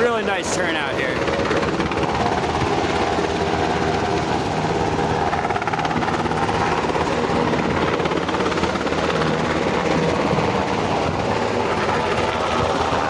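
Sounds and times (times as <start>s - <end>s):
helicopter rotors beating: 0.0s - 13.0s.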